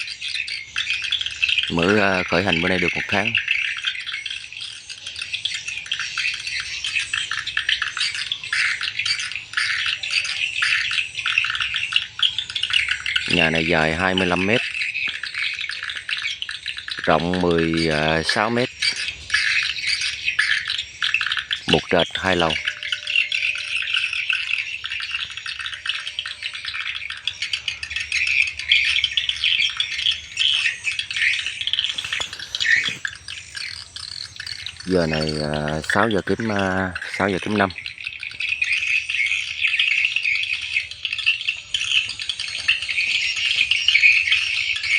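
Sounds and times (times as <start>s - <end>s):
swiftlets chirping: 0.0s - 44.9s.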